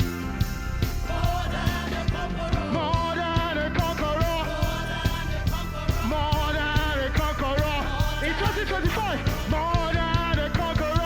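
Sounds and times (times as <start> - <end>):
band with drum beat and bass: 0.0 - 11.0
gospel singers: 0.0 - 11.0.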